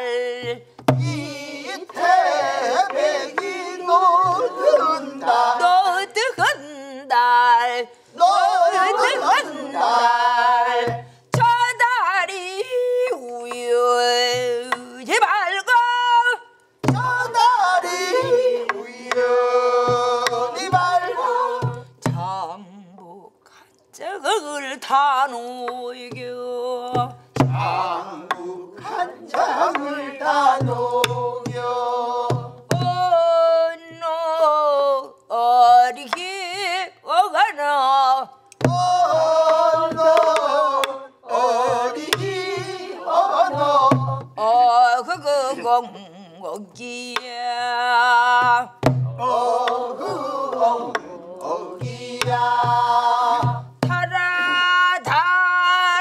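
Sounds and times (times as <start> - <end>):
woman singing with wide vibrato: 0.0 - 56.0.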